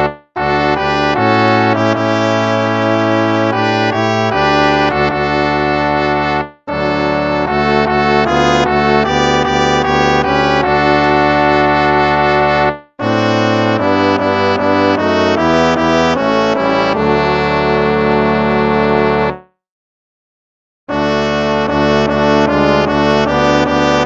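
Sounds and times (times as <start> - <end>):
brass instruments playing hymn chords: 0.0 - 19.4, 20.9 - 24.0.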